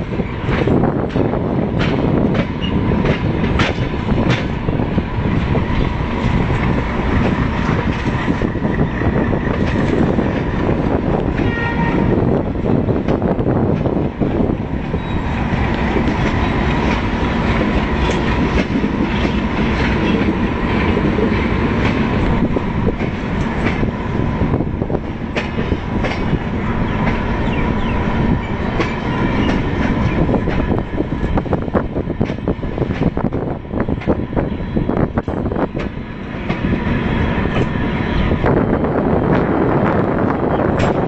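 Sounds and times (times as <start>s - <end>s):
rail joint clicks: 0.0s - 41.0s
train wheels rumbling on rails: 0.0s - 41.0s.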